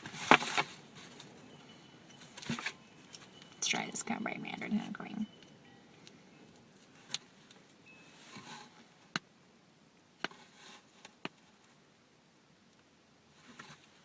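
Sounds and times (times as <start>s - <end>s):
soft rustling: 0.0s - 9.2s, 10.2s - 11.9s, 13.3s - 14.0s.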